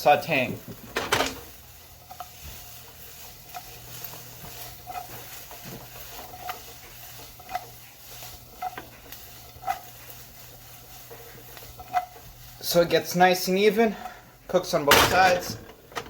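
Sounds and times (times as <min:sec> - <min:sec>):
onions sizzling in a pan: 0:00.0 - 0:15.9.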